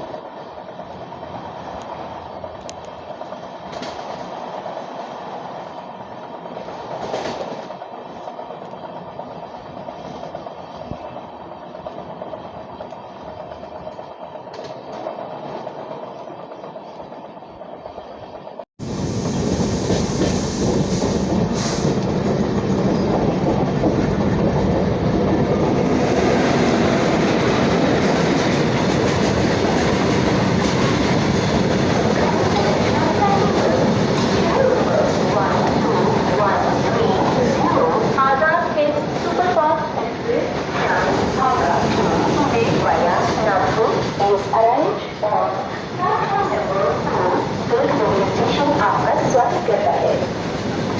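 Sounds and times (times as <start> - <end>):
train wheels running on rails: 0.0 - 50.9.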